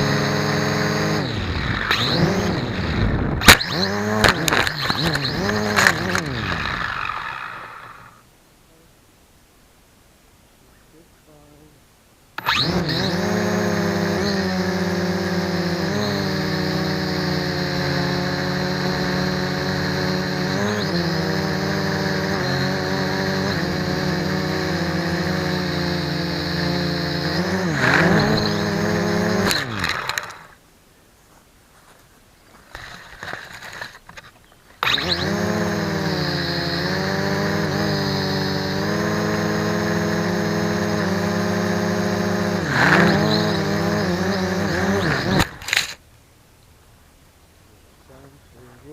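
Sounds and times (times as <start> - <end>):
quadcopter motors buzzing: 0.0 - 8.3, 12.4 - 30.6, 32.6 - 46.0.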